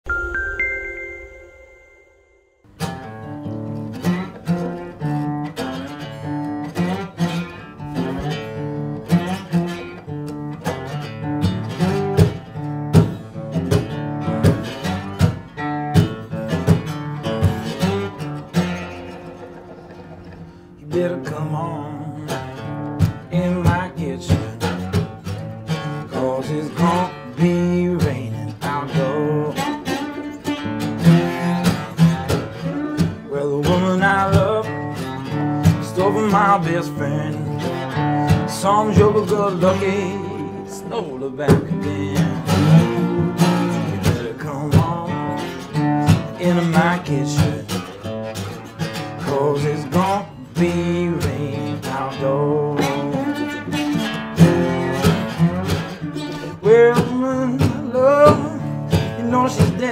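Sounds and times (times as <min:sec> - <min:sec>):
slide acoustic guitar blues: 0:02.7 - 0:59.9.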